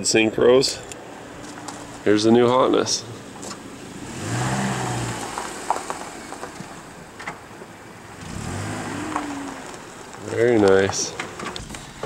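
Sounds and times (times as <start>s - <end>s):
car engine hum: 0.2s - 12.0s.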